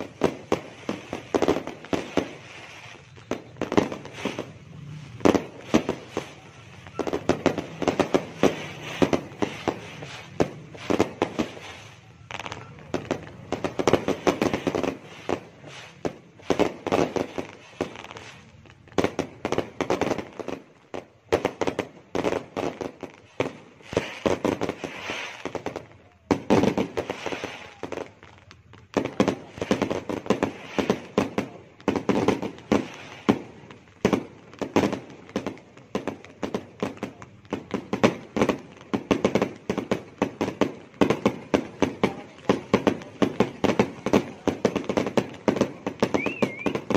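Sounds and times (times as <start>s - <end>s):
fireworks bangs and pops: 0.0s - 46.9s.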